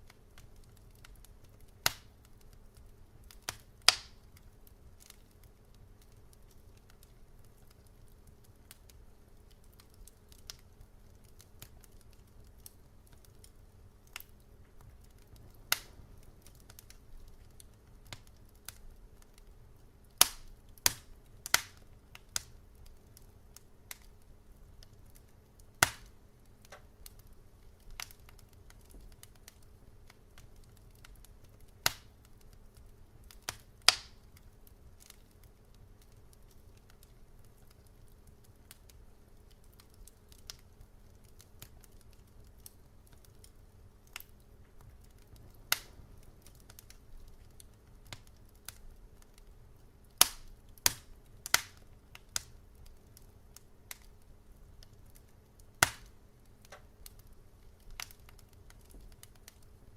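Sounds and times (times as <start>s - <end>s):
low steady rumble: 0.0s - 40.1s, 40.7s - 59.9s
wood fire crackling: 0.0s - 59.9s.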